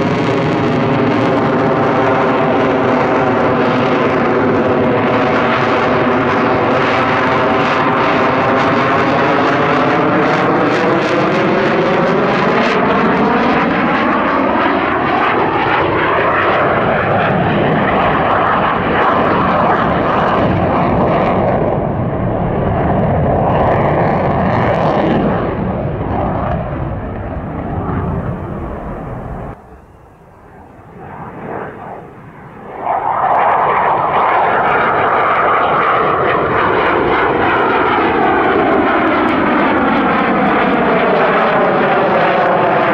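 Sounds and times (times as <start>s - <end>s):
fighter jet roar: 0.0s - 42.9s.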